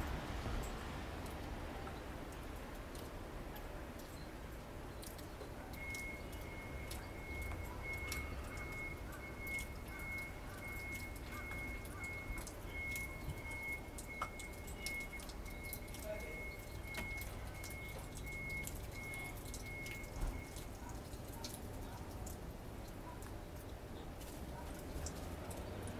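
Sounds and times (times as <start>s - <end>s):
water splashing and dripping: 0.0s - 25.9s.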